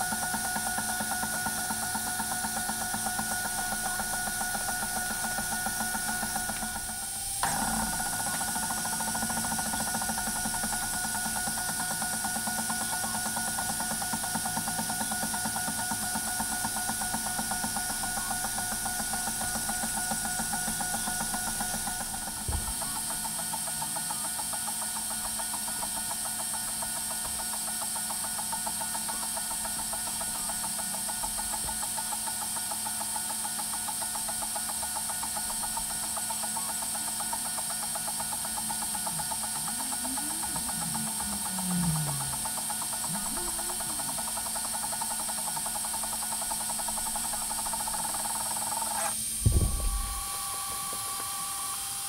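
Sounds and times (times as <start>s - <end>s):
stepper motors buzzing: 0.0s - 27.1s, 36.5s - 52.0s
steady machine hum: 0.0s - 52.0s.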